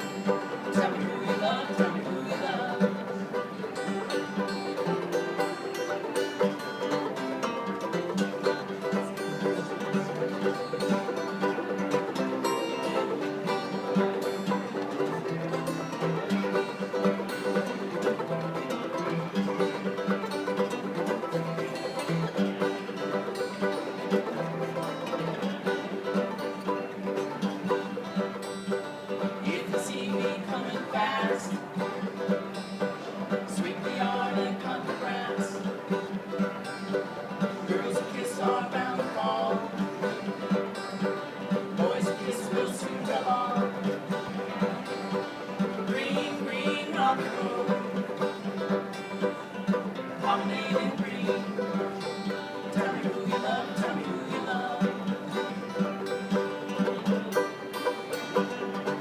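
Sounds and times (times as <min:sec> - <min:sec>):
acoustic string music: 0:00.0 - 0:59.0.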